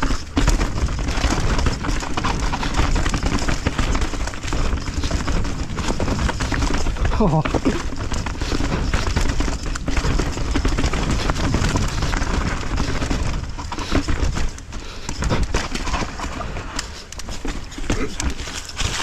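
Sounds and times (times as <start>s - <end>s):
bike rattling on rough trail: 0.0s - 19.0s.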